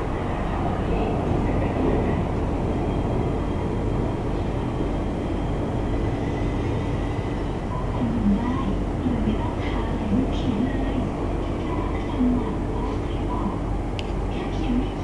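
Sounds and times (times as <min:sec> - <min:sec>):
train car rumble from inside: 0:00.0 - 0:15.0.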